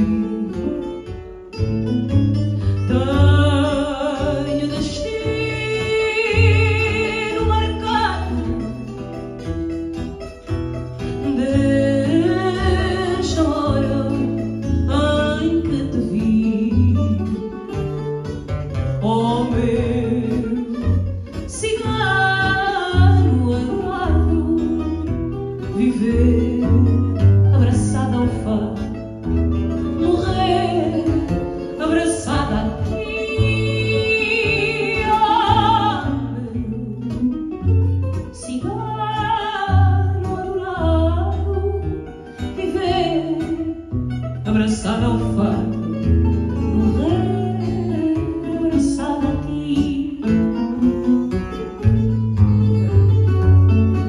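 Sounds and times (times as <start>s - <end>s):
woman singing into microphone: 0.0s - 1.0s, 2.7s - 9.0s, 11.2s - 17.7s, 19.0s - 29.1s, 30.0s - 37.5s, 38.2s - 46.0s, 46.6s - 51.2s
plucked guitar: 0.0s - 54.0s.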